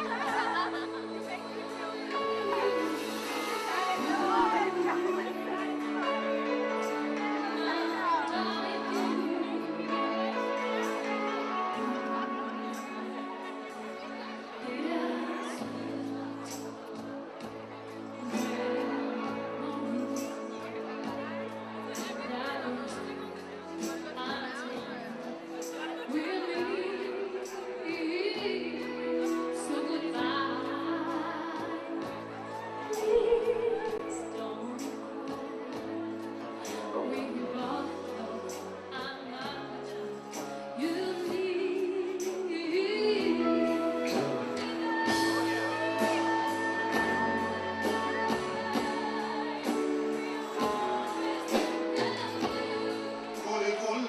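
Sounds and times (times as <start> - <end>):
woman singing into microphone: 0.0 - 17.1, 18.0 - 54.0
live band playing: 0.0 - 54.0.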